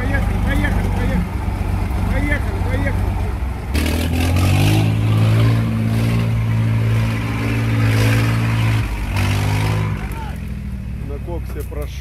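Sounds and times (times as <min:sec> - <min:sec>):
truck engine revving under load: 0:00.0 - 0:11.2.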